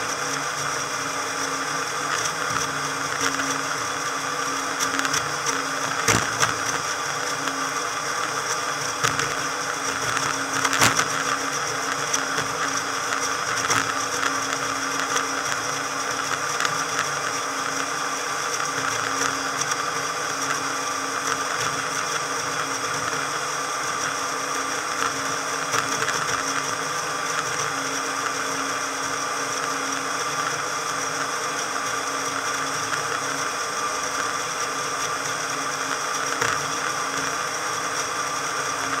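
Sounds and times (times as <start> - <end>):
sped-up motorboat engine whir: 0.0 - 39.0.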